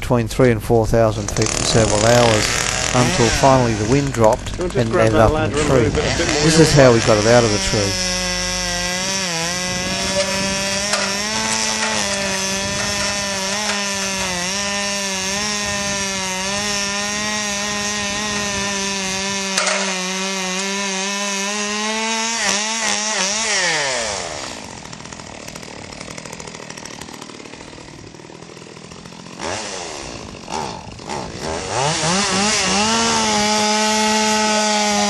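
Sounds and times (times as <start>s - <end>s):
chainsaw cutting at high revs: 1.2s - 35.0s
chainsaw idling: 1.2s - 35.0s.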